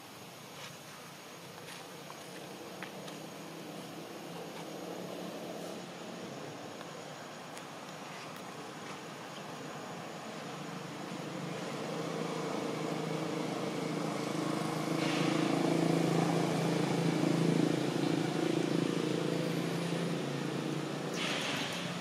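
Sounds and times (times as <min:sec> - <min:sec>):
passing motor vehicle engine hum: 0:01.2 - 0:22.0.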